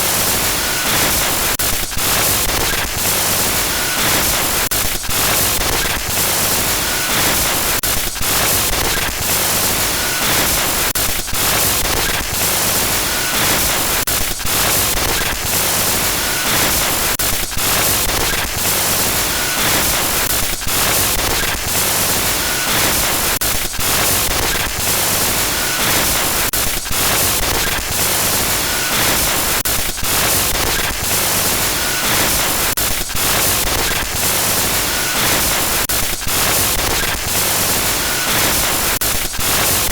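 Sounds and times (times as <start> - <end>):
harsh static hiss: 0.0 - 39.9.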